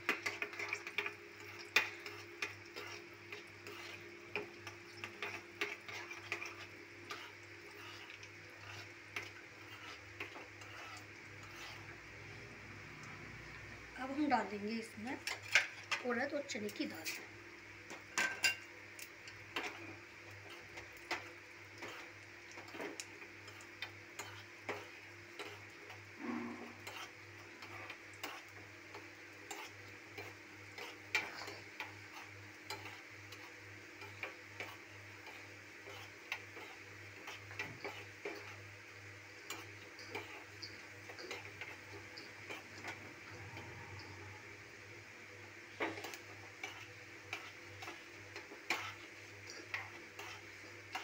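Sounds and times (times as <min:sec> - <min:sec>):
spices sizzling in hot oil: 0:00.0 - 0:51.0.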